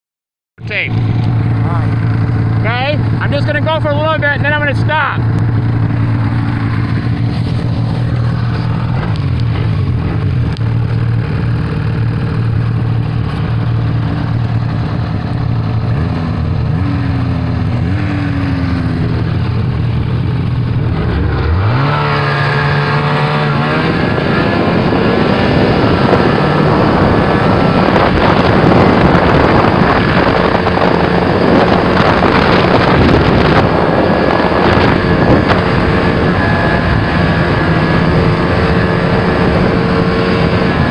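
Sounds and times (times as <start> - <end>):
snowmobile engine revving: 0.6 - 40.9.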